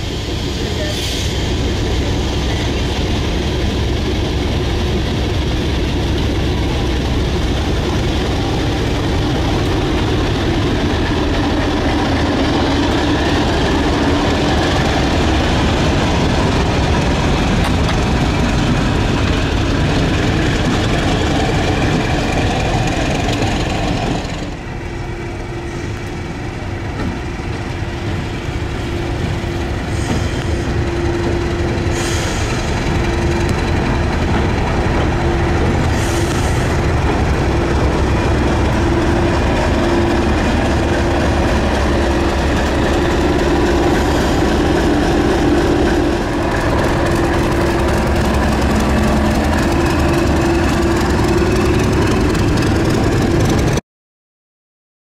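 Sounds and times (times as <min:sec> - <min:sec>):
diesel locomotive engine drone: 0:00.0 - 0:53.8
train wheels on rails: 0:00.0 - 0:53.8.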